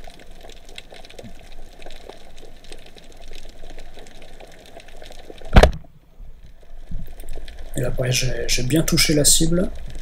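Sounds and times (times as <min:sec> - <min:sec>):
faint clicks and crackles: 0:00.0 - 0:10.0.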